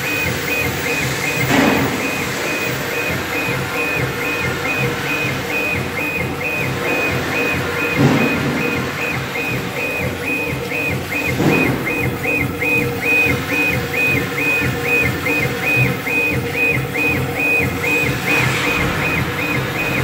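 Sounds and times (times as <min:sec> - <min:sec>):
laser marker motors whining: 0:00.0 - 0:20.0.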